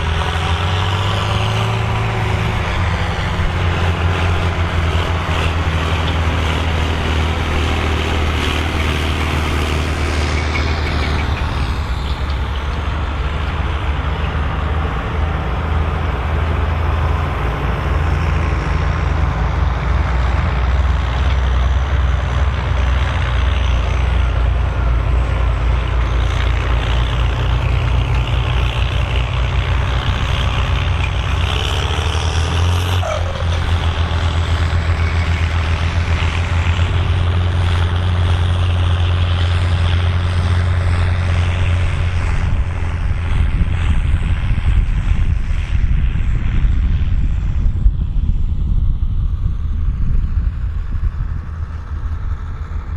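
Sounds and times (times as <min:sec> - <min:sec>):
tractor diesel engine droning: 0:00.0 - 0:52.9.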